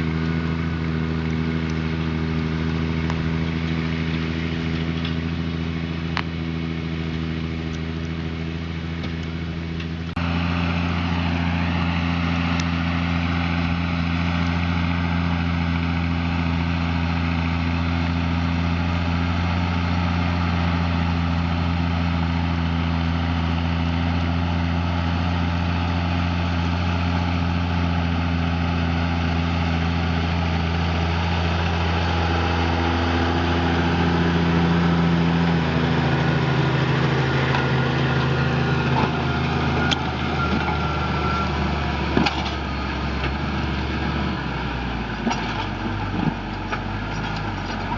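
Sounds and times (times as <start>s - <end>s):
farm machinery diesel engine: 0.0s - 47.9s.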